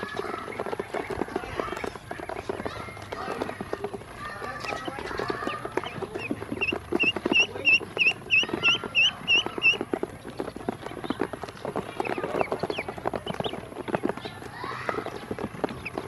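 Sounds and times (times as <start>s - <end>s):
bills tapping on plastic: 0.0s - 16.0s
duckling peeping: 0.0s - 16.0s.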